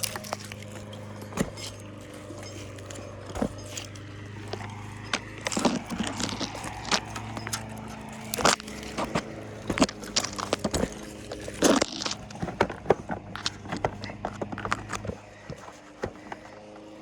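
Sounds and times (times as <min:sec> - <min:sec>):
sharp clicks and knocks: 0:00.0 - 0:16.9
engine running low hum: 0:00.0 - 0:17.0.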